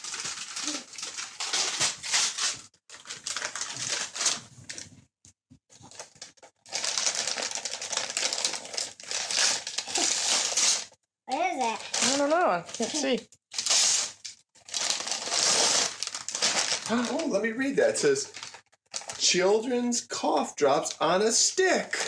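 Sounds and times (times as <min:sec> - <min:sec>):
gift wrap and tissue paper rustling: 0:00.0 - 0:05.0, 0:05.7 - 0:19.4.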